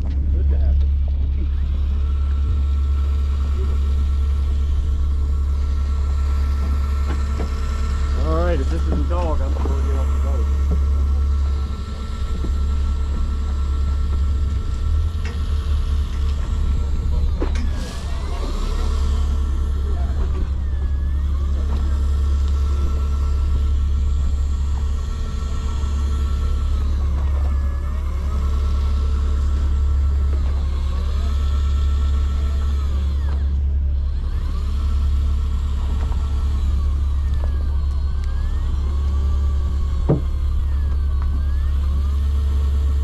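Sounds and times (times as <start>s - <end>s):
boat engine droning: 0.0s - 43.0s
faint whining tones: 0.0s - 43.0s.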